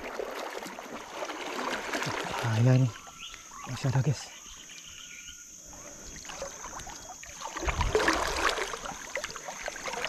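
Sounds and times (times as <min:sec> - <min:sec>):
water sloshing and splashing: 0:00.0 - 0:04.2, 0:05.7 - 0:10.0.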